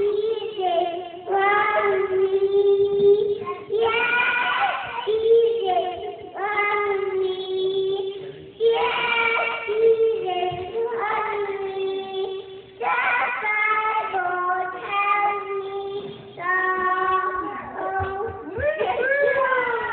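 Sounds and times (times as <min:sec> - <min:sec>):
child singing: 0:00.0 - 0:19.9.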